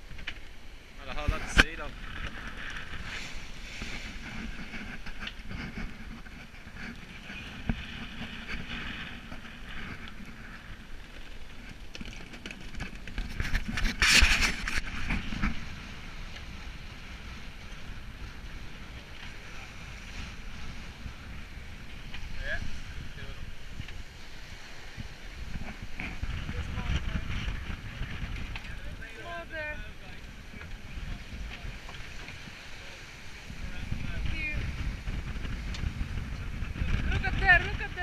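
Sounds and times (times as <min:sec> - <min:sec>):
sea rushing along hull: 0:00.0 - 0:38.0
wind buffeting microphone: 0:00.0 - 0:38.0.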